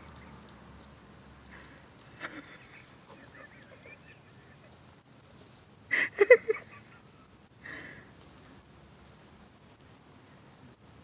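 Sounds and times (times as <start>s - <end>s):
crickets chirping: 0.0s - 9.3s, 10.0s - 11.0s.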